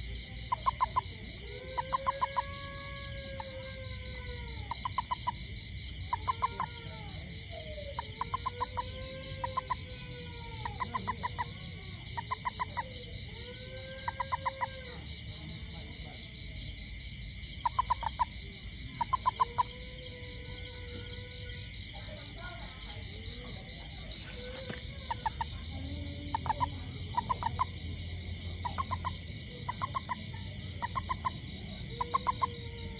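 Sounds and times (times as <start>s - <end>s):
insect chorus: 0.0s - 32.9s
toad chirping: 0.0s - 32.9s.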